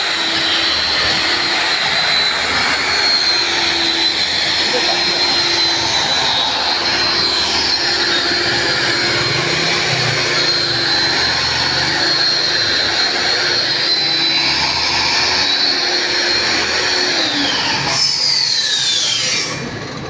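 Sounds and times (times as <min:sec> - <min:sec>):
grinder grinding iron griddle: 0:00.0 - 0:20.0.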